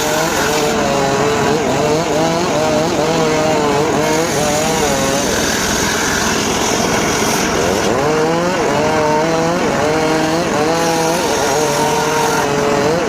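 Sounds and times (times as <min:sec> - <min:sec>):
circular saw cutting wood: 0:00.0 - 0:13.0.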